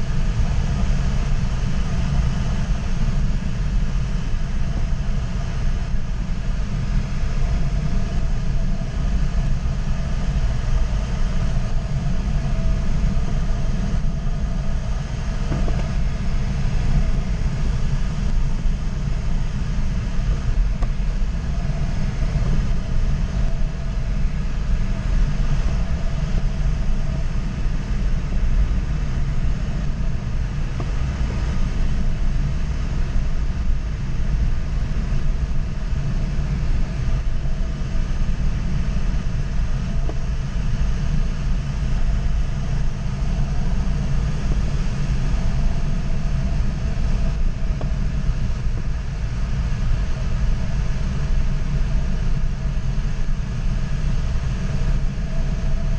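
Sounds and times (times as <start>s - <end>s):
airflow rushing around glider: 0.0s - 55.9s.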